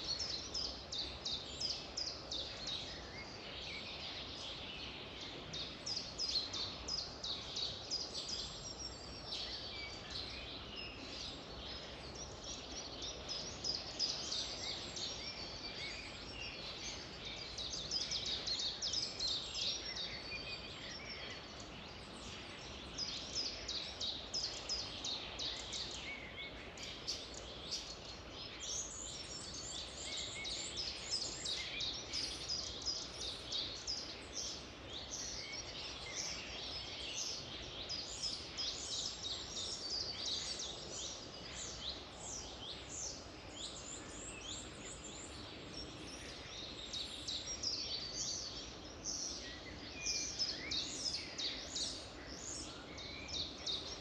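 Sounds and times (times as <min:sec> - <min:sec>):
faint steady hiss: 0:00.0 - 0:54.0
songbirds chirping and trilling: 0:00.0 - 0:54.0.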